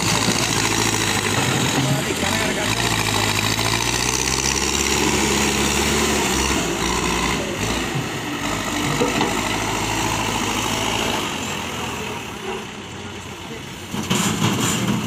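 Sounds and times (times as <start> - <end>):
diesel engine working under load: 0.0 - 15.0.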